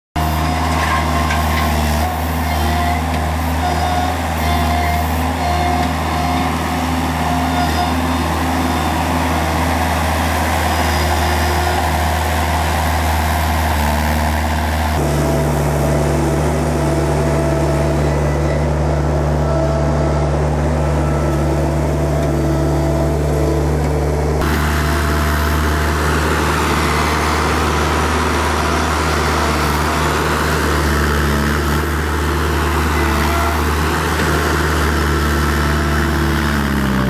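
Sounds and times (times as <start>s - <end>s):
loader engine running: 0.2s - 37.0s.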